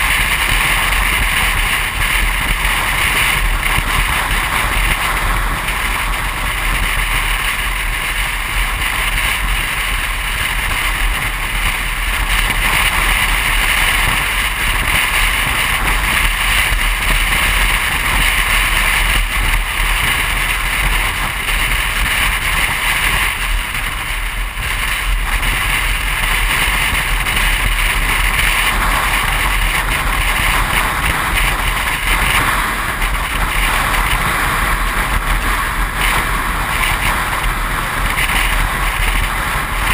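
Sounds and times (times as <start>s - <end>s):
car road noise at highway speed: 0.0s - 39.9s
wind rumbling on microphone: 0.0s - 39.9s.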